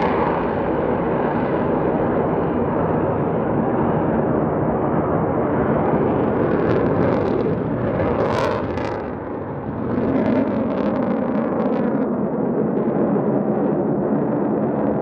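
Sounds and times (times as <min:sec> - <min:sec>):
jet engines roaring with crackle: 0:00.0 - 0:15.0.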